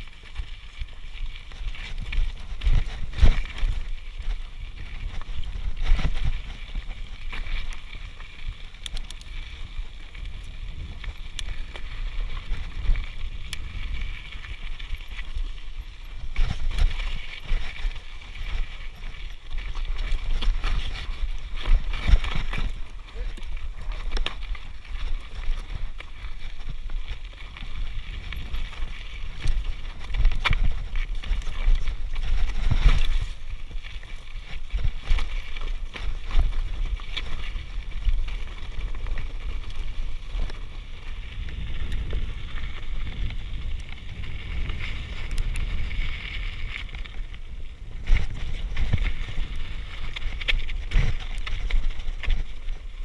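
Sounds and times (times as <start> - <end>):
wind on microphone: 1.4 - 53.0.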